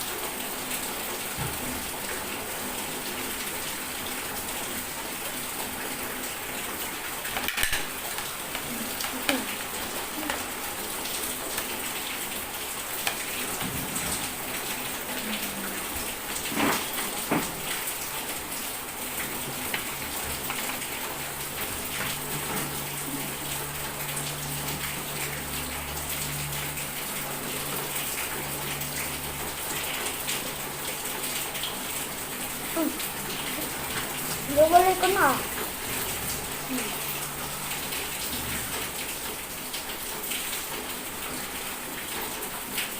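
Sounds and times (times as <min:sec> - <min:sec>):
rain hissing and pattering: 0:00.0 - 0:42.9.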